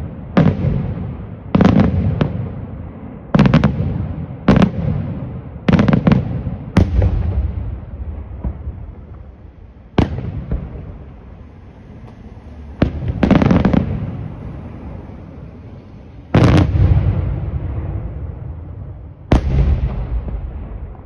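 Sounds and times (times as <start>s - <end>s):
smaller firework bangs: 0.0s - 21.0s.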